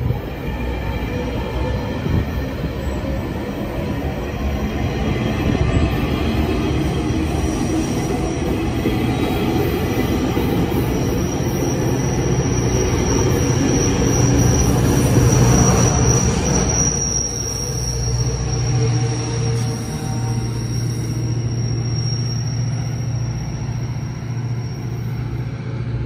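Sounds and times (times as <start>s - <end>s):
diesel locomotive hum: 0.0s - 26.0s
train coaches rumbling on rails: 0.0s - 26.0s
high-pitched wheel squeal: 1.3s - 25.5s.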